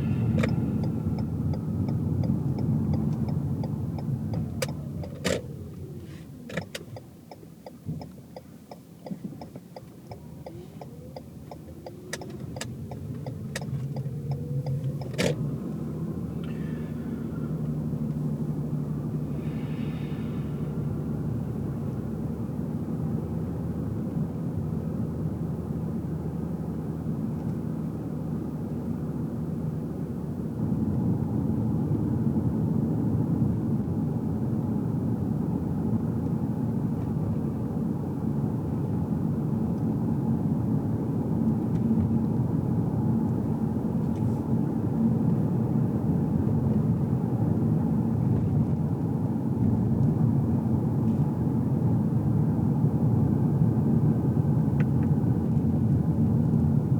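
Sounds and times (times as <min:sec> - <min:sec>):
car engine and tyre noise: 0:00.0 - 0:56.9.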